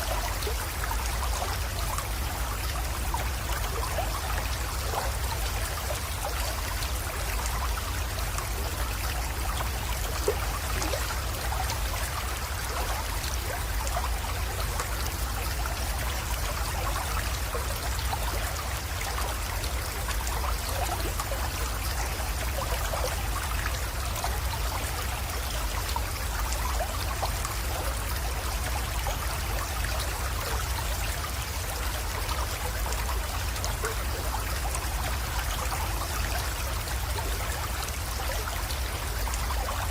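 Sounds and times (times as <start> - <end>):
creek trickling and splashing: 0.0 - 39.9.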